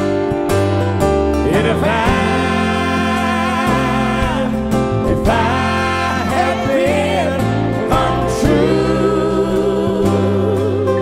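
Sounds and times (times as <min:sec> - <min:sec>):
bass: 0:00.0 - 0:11.0
guitar: 0:00.0 - 0:11.0
man singing: 0:01.4 - 0:11.0.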